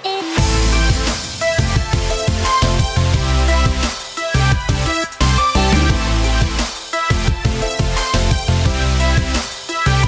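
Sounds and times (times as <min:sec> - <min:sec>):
electronic music with deep bass: 0:00.4 - 0:10.0.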